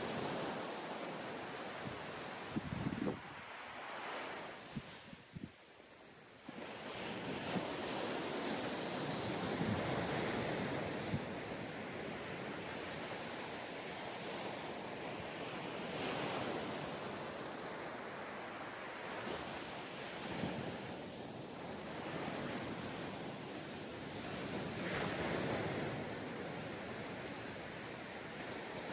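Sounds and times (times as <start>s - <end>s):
waves breaking on a beach: 0.0s - 28.9s.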